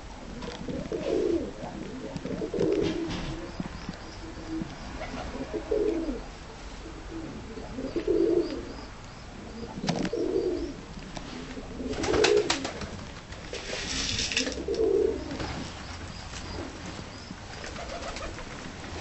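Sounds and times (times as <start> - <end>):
pigeons cooing: 0.0 - 13.0, 13.6 - 19.0.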